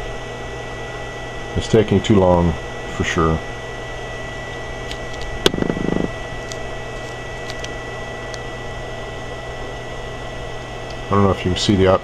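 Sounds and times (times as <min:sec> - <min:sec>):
electrical hum and fan whirr: 0:00.0 - 0:12.0.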